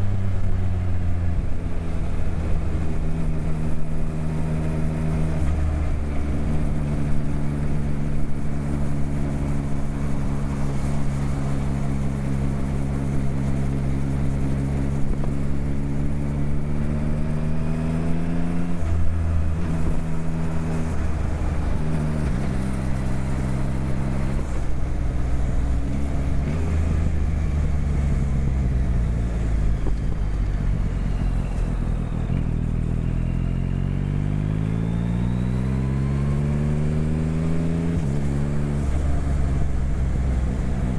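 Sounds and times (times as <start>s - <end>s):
motorcycle engine revving: 1.9s - 40.9s.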